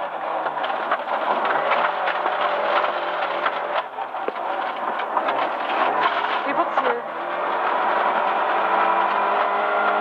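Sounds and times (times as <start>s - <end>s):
car engine running hard: 0.0s - 10.0s
gravel pinging against car: 0.0s - 10.0s.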